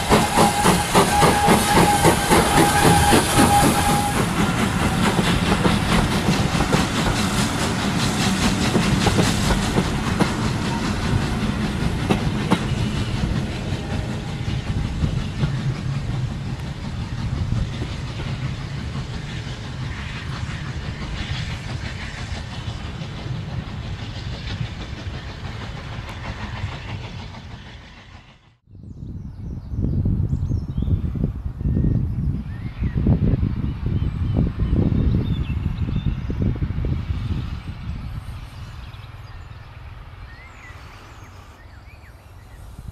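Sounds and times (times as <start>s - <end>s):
steam train passing: 0.0s - 28.7s, 31.1s - 42.9s.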